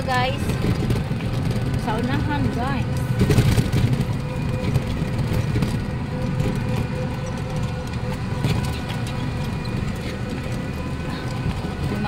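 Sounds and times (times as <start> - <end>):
tyre and wind rumble: 0.0 - 12.0
electric motor whine: 0.8 - 12.0.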